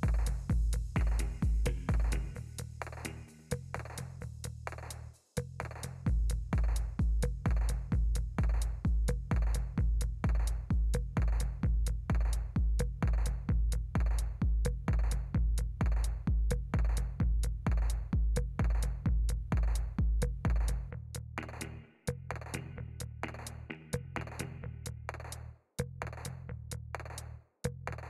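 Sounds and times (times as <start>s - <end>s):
drum machine beat: 0.0s - 25.4s
deep bass: 0.0s - 28.0s.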